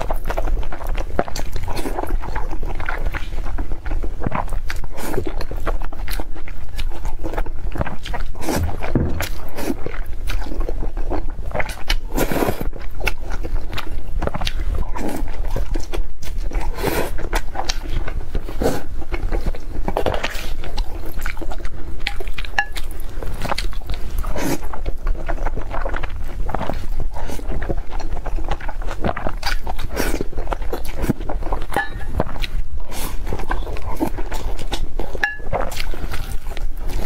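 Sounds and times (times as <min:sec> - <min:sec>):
chewing and biting food: 0:00.0 - 0:37.0.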